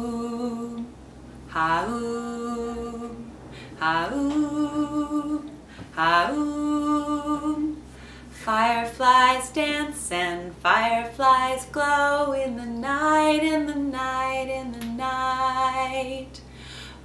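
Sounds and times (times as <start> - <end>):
woman singing lullaby: 0.0 - 0.9, 1.5 - 7.8, 8.4 - 16.4.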